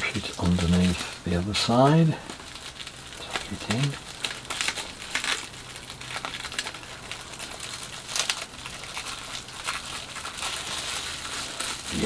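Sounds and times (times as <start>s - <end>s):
foil-like plastic crinkling: 0.0s - 12.0s.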